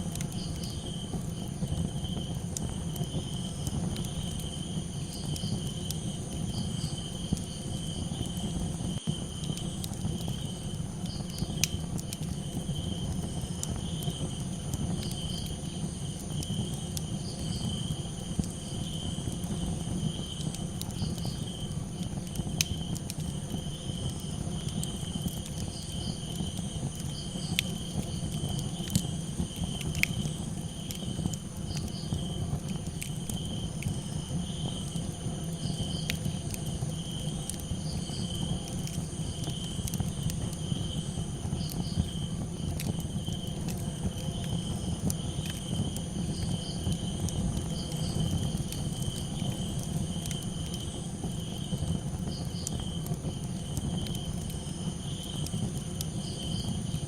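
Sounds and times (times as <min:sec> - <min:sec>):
campfire crackling and popping: 0:00.0 - 0:57.0
crickets chirping: 0:00.0 - 0:57.0
insects droning: 0:00.0 - 0:57.0.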